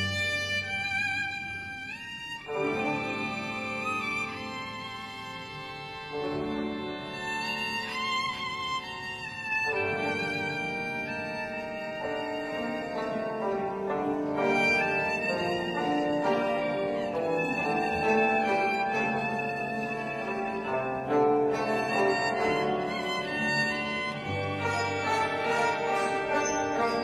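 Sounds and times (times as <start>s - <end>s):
bowed string melody: 0.0s - 27.0s
orchestra playing: 0.0s - 27.0s.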